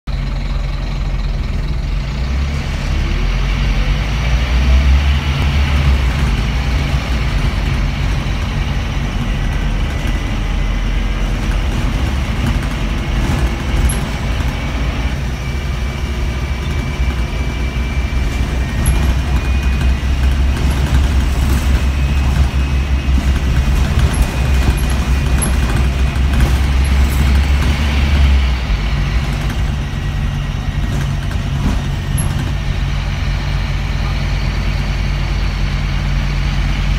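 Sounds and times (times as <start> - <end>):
bus engine deep drone: 0.0 - 36.9.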